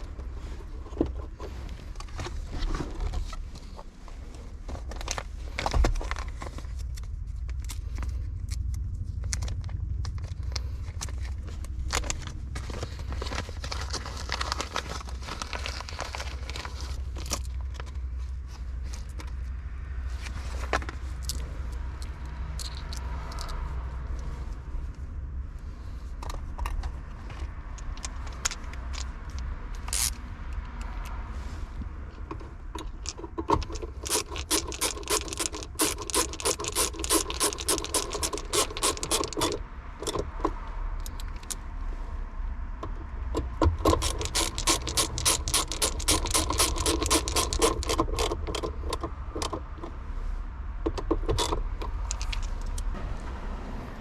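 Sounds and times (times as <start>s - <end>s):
objects being handled: 0.0s - 24.6s, 25.8s - 41.6s, 42.8s - 50.0s, 50.8s - 53.0s
steady low hum: 0.0s - 54.0s.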